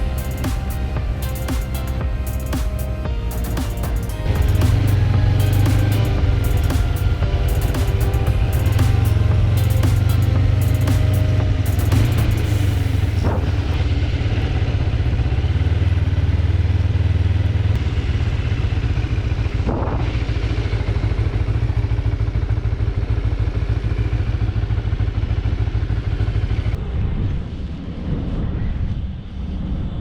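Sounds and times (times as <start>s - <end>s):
motorcycle engine running: 0.0s - 26.8s
road and wind noise: 0.0s - 30.0s.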